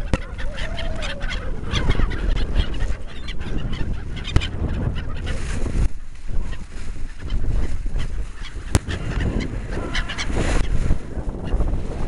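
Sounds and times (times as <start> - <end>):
gulls squawking: 0.0 - 11.8.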